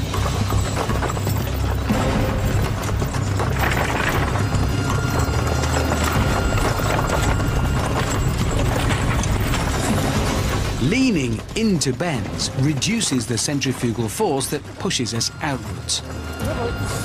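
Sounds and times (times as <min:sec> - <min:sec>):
background music: 0:00.0 - 0:17.0
hoofbeats galloping on grass: 0:00.0 - 0:17.0.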